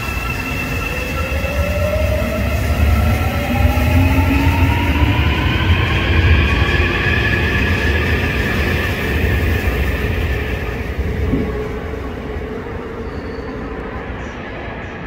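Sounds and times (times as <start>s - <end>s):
train inverter whine rising: 0.0s - 15.0s
wheels rumbling on rail: 0.0s - 15.0s.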